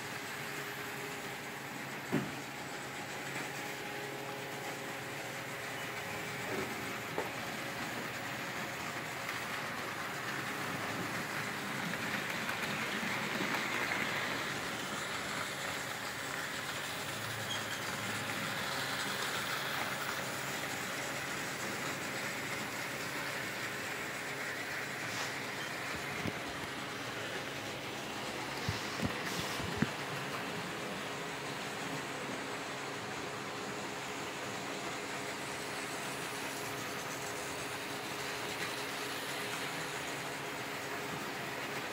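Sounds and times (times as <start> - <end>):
model train motors whirring: 0.0 - 41.9.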